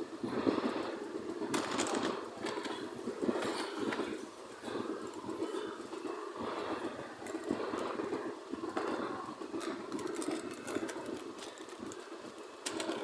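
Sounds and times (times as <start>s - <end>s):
mechanical rattling and chattering: 1.3s - 13.0s.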